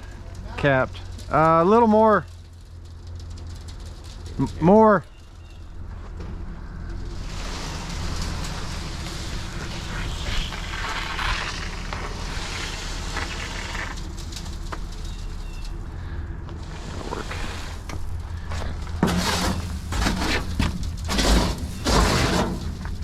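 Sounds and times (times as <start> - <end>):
engine running: 0.0 - 23.0
rushing crackling noise: 0.0 - 23.0.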